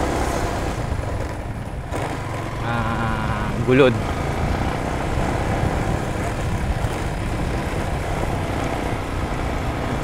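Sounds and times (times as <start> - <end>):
motorcycle engine riding: 0.0 - 10.0
wind rumble on microphone: 0.0 - 10.0.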